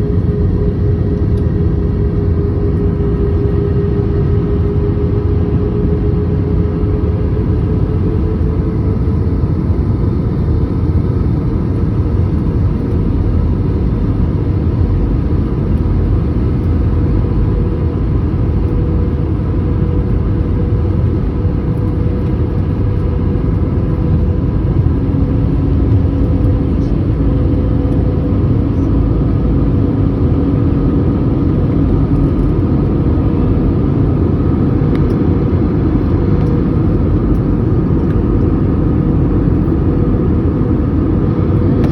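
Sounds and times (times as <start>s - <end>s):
jet engine and airflow rumble: 0.0s - 41.9s
lower hum: 0.0s - 41.9s
steady droning hum: 0.0s - 41.9s.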